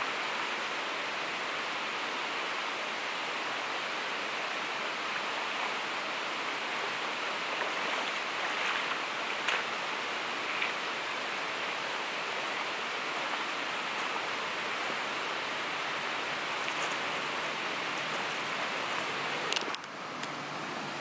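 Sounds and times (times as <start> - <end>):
river running over rocks: 0.0 - 21.0.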